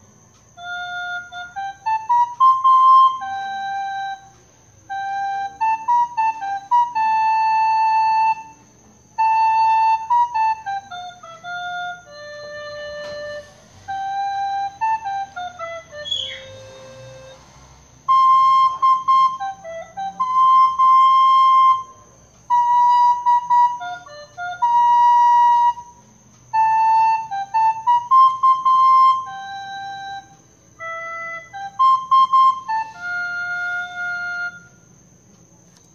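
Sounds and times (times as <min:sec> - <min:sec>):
slow flute melody: 0:00.0 - 0:35.1.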